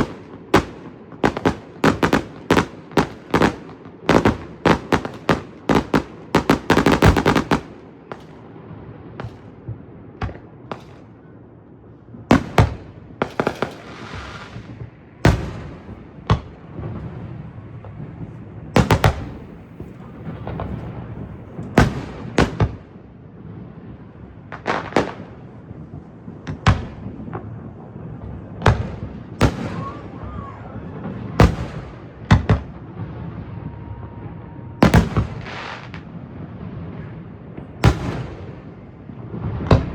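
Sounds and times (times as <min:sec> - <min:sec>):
fireworks crackling: 0:00.0 - 0:11.2, 0:12.3 - 0:39.9
fireworks booming: 0:00.0 - 0:39.9.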